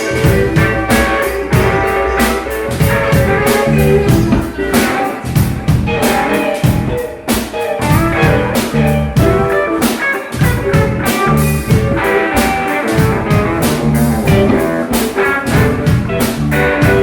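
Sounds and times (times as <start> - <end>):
drum kit steady beat: 0.0 - 17.0
guitar playing: 0.0 - 17.0.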